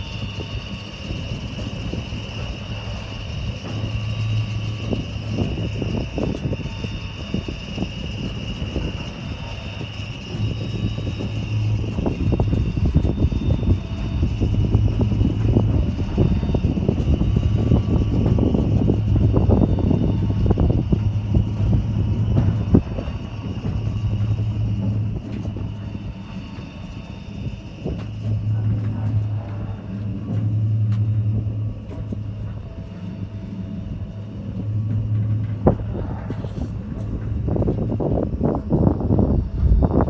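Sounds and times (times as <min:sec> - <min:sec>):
faint high whine: 0:00.0 - 0:40.0
heavy low rumble: 0:00.0 - 0:40.0
pumpjack machine hum: 0:00.0 - 0:40.0.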